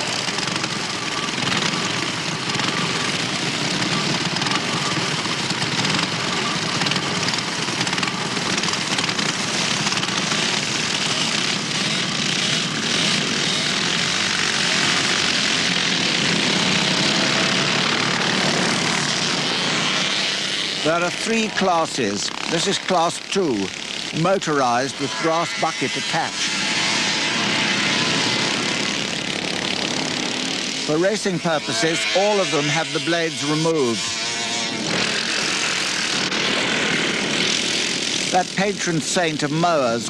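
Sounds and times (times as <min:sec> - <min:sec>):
lawnmower engines running: 0:00.0 - 0:40.0.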